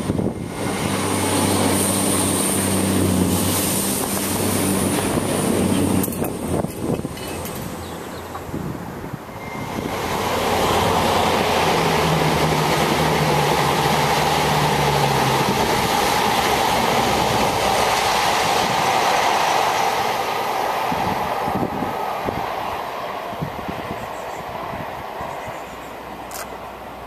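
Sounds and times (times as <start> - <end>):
diesel train passing: 0.0 - 27.0.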